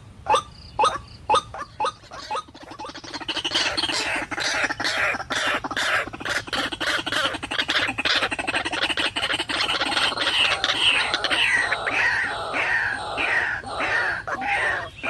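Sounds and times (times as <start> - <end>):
waterhen calling: 0.0 - 15.0.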